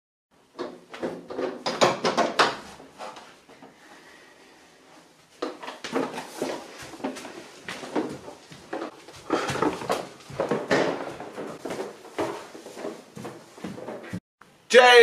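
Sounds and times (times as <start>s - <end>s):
wooden knocks and clatter: 0.5s - 3.8s, 5.4s - 14.2s.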